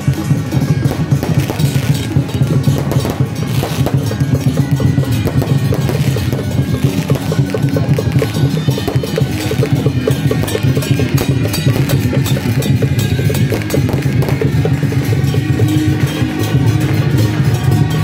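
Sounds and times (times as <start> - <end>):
drums beating: 0.0 - 18.0.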